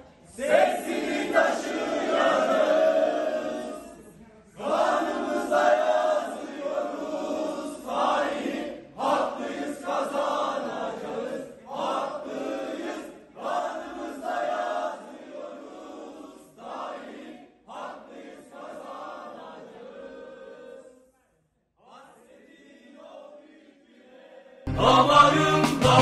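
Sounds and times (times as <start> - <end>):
people chanting in unison: 0.0 - 21.2, 21.8 - 26.0.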